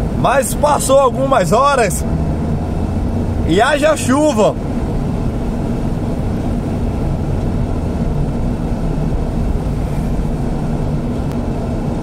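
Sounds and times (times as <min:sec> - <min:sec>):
car engine hum: 0:00.0 - 0:12.0
wet road noise: 0:00.0 - 0:12.0.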